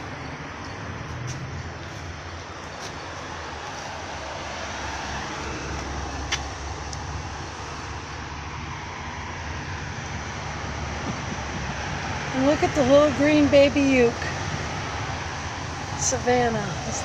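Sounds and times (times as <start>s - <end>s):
low rumble of street noise: 0.0s - 17.0s.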